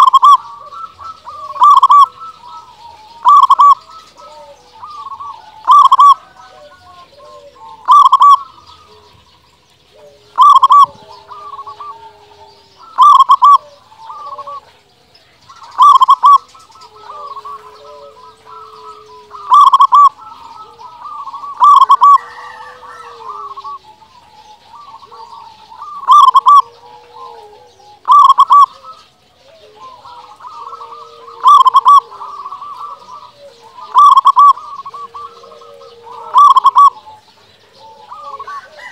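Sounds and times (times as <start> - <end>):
dove cooing: 0.0 - 38.9
faint bird calls: 0.0 - 38.9.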